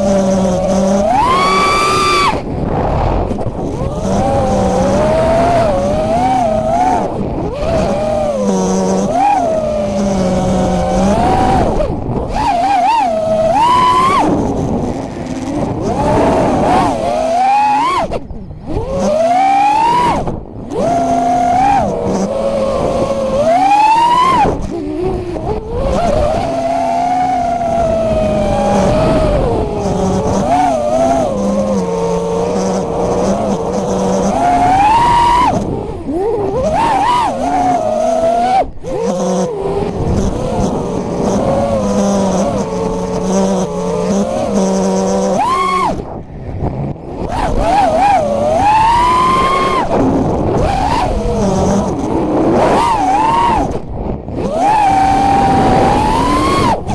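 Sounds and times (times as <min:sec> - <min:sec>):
drone motors whining: 0:00.0 - 0:56.9.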